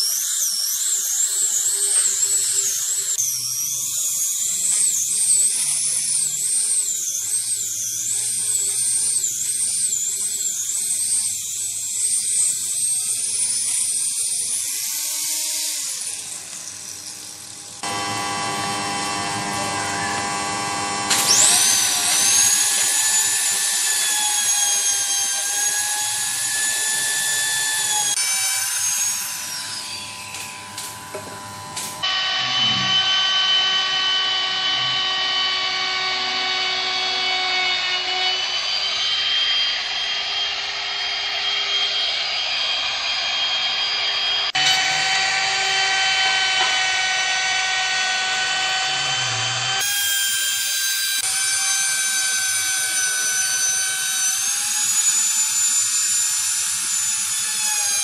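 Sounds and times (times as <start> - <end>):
high power tool whine: 0.0 - 58.0
woodworking power tools: 0.0 - 58.0.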